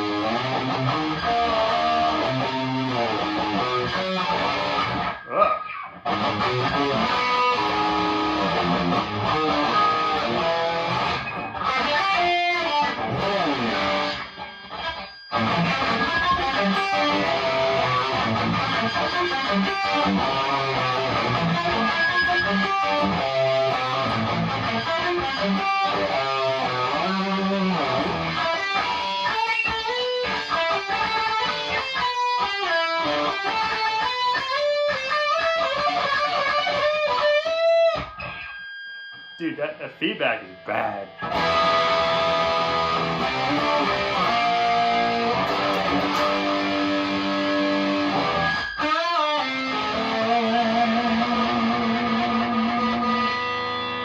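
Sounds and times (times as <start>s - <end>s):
amp feedback: 0.0s - 54.0s
distorted electric guitar: 0.0s - 54.0s.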